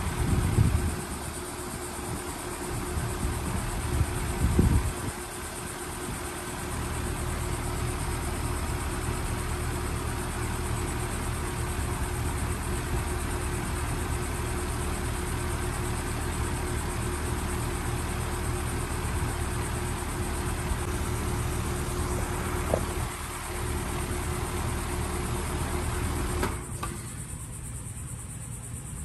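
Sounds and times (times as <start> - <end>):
compressor hum: 0.0 - 29.0
fan air rush: 0.0 - 29.0.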